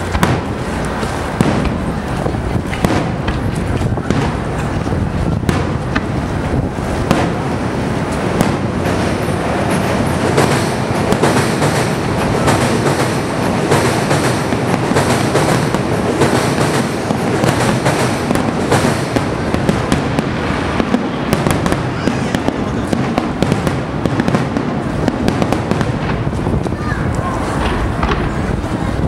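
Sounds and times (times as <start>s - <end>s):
firework shells bursting: 0.0s - 28.8s.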